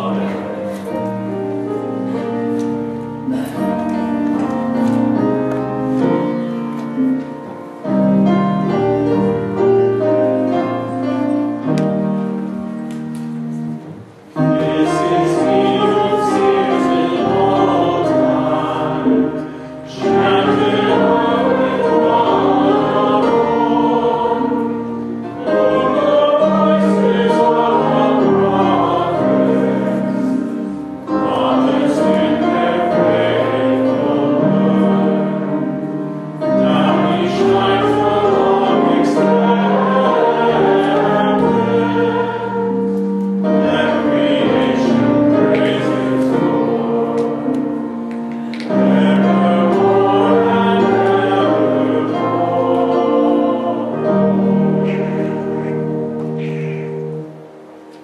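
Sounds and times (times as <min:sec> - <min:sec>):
people singing: 0:00.0 - 0:07.1, 0:14.4 - 0:57.2
piano: 0:00.0 - 0:58.0.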